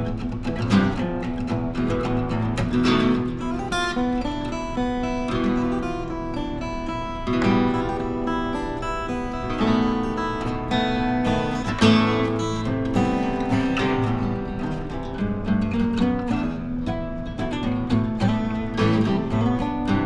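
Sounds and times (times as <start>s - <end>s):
acoustic guitar picking melody: 0.0s - 20.0s
acoustic guitar strumming: 0.0s - 20.0s.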